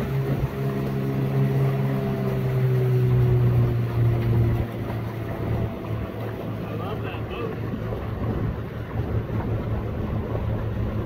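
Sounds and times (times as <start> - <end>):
outboard motor humming: 0.0 - 11.0
water rushing: 0.0 - 11.0
wind: 0.0 - 11.0.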